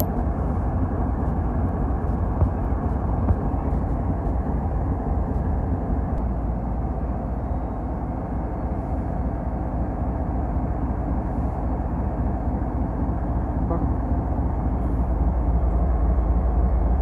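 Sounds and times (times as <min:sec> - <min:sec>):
locomotive engines rumbling: 0:00.0 - 0:17.0.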